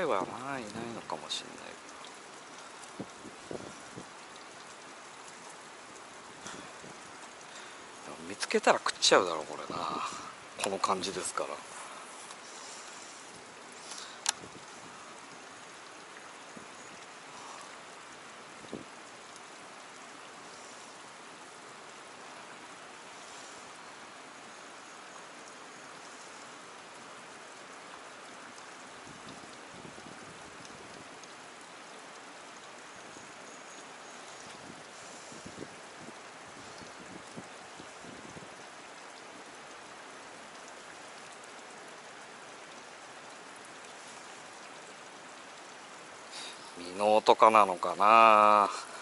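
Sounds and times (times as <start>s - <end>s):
stream water flowing: 0.0s - 49.0s.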